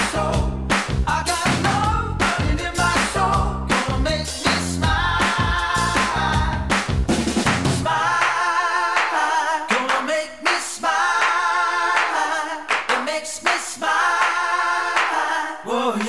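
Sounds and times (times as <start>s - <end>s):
voices singing held notes: 0.0s - 6.8s, 7.8s - 16.0s
sharp clap-like beats: 0.0s - 15.3s.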